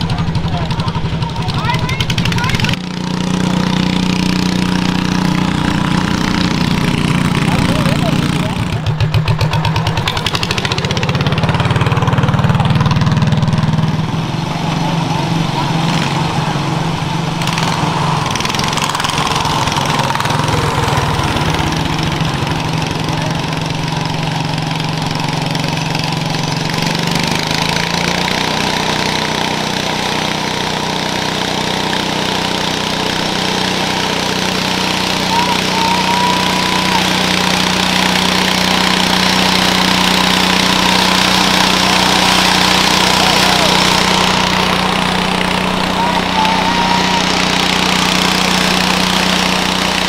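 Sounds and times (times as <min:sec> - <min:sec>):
garden tractor engine under load: 0:00.0 - 0:50.0
loud engine running close by: 0:00.0 - 0:50.0.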